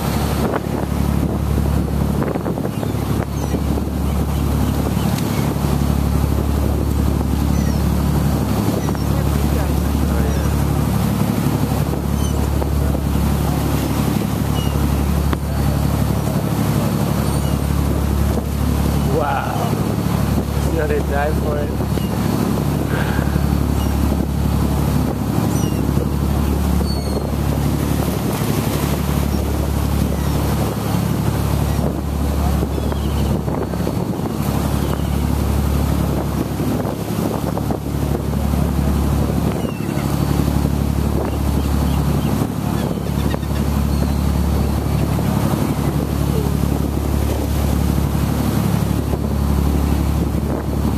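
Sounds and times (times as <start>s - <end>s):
boat engine humming: 0.0s - 50.9s
churning wake rushing: 0.0s - 50.9s
wind buffeting microphone: 0.0s - 50.9s.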